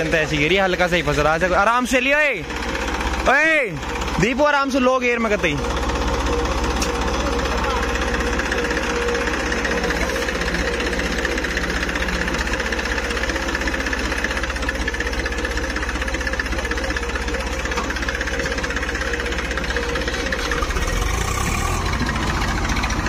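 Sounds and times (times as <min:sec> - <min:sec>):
diesel tractor engines running: 0:00.0 - 0:23.0.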